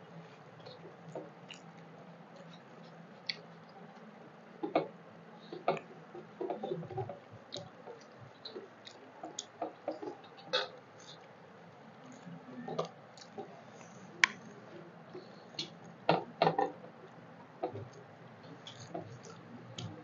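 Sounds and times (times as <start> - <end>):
chewing: 0.2 - 20.0.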